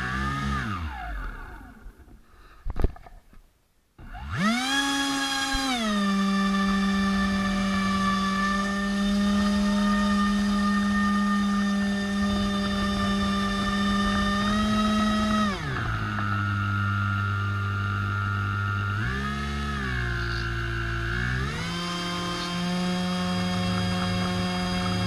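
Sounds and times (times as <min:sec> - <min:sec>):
model boat motor whining: 0:00.0 - 0:02.1, 0:04.0 - 0:25.0.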